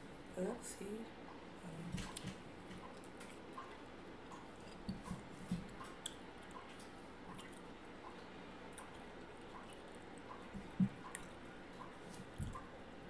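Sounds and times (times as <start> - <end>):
soft chewing: 1.3 - 12.8.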